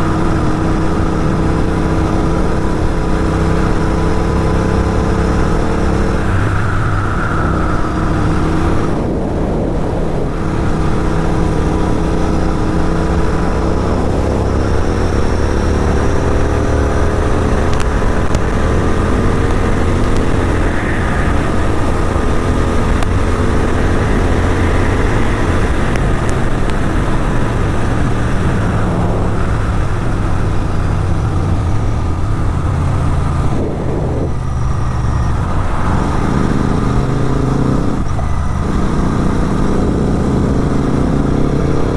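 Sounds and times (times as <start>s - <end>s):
motorcycle engine running hard: 0.0s - 41.9s
wind rush over microphone: 0.0s - 41.9s.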